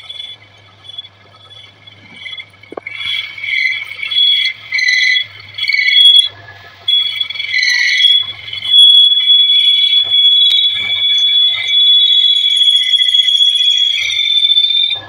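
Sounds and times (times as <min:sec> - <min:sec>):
lathe tool squealing: 0:00.0 - 0:15.0
low machine hum: 0:00.0 - 0:15.0.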